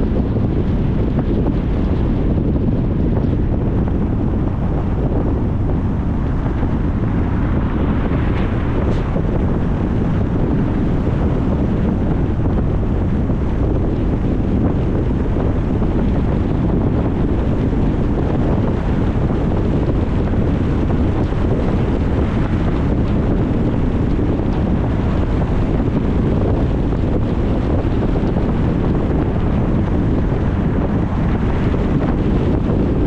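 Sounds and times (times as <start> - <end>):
road noise: 0.0 - 33.0
wind buffeting microphone: 0.0 - 33.0.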